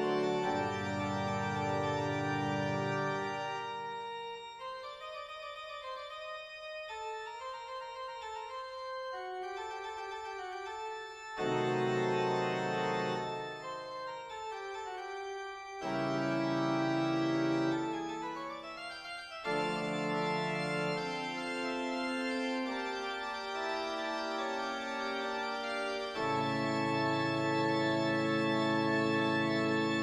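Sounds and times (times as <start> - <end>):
organ playing slow chords: 0.0 - 30.0.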